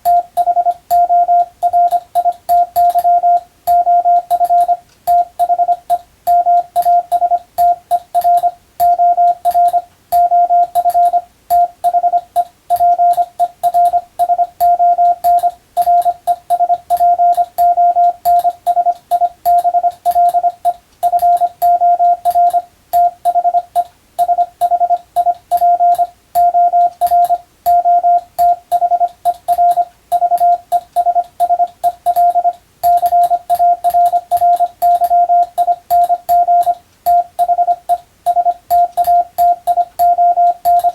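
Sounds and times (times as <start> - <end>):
faint keying clicks: 0.0 - 40.9
morse code tone: 0.0 - 40.9.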